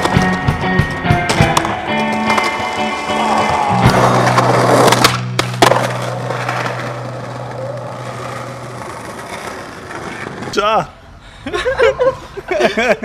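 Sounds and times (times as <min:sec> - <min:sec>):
skateboard wheels rolling on stone: 0:00.0 - 0:10.9.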